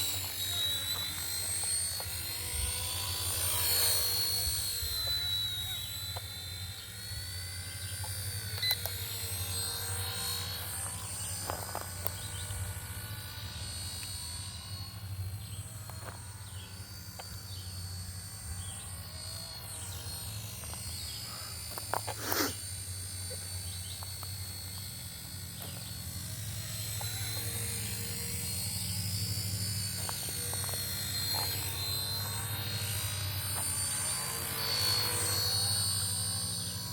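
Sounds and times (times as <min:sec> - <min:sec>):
model helicopter rotor whining: 0:00.0 - 0:36.9.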